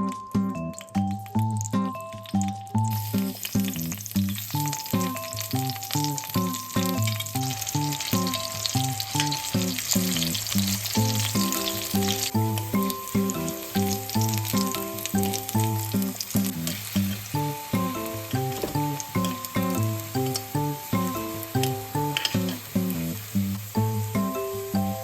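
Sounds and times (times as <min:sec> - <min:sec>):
background music with beat: 0:00.0 - 0:03.4, 0:04.6 - 0:09.8, 0:11.0 - 0:25.0
food sizzling in frying pan: 0:00.0 - 0:25.0.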